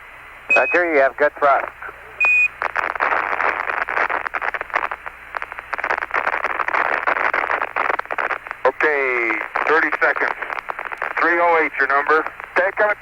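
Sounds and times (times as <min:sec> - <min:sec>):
radio static crackling: 0:00.5 - 0:13.0.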